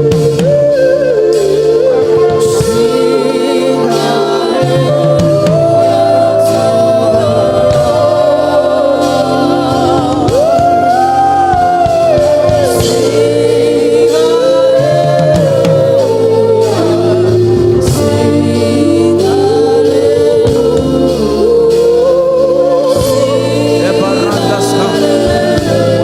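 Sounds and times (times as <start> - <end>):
choir singing along: 0.0 - 26.0
singer holding sliding notes: 0.0 - 26.0
sustained keyboard chords: 0.0 - 26.0.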